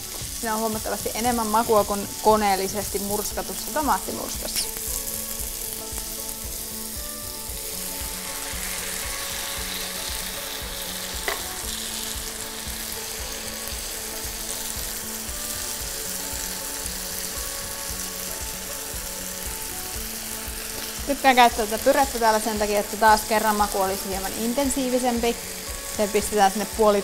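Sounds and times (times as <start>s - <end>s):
vegetables sizzling in frying pan: 0.0s - 27.0s.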